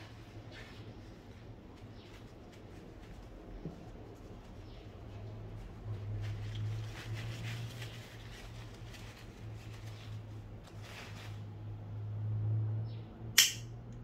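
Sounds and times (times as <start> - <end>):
paper tissue crinkling: 0.0 - 11.8
low steady hum: 0.0 - 14.0.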